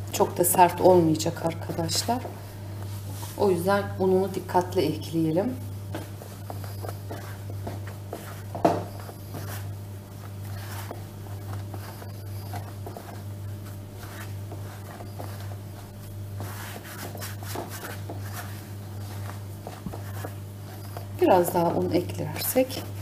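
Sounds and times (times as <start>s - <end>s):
steady low hum: 0.0s - 23.0s
hands kneading dough: 0.2s - 23.0s.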